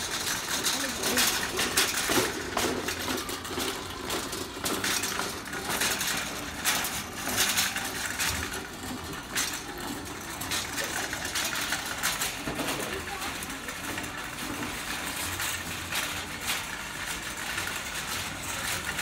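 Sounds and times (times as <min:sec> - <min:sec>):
shopping cart rattling: 0:00.0 - 0:19.0
store background noise: 0:00.0 - 0:19.0.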